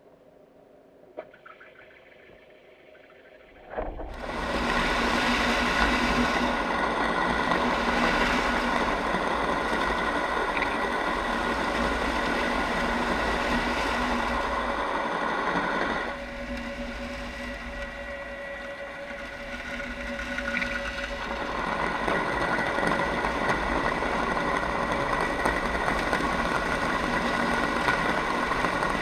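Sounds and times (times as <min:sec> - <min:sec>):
motor running with hum: 0:03.4 - 0:29.0.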